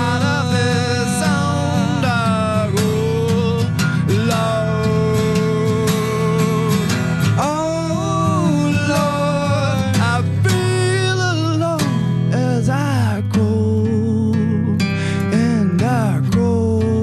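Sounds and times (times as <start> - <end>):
acoustic guitar chords: 0.0 - 17.0
man singing: 0.0 - 17.0.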